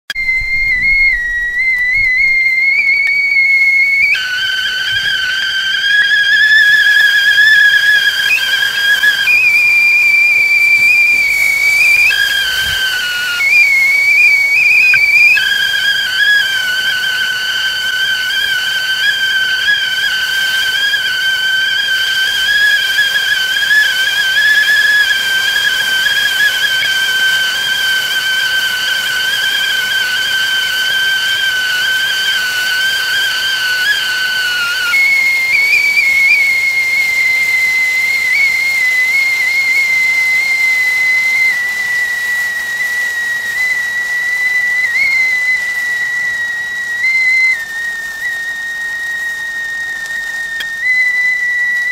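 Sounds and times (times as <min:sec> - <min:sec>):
kettle whistling: 0:00.0 - 0:51.9
steam hiss: 0:00.1 - 0:51.9.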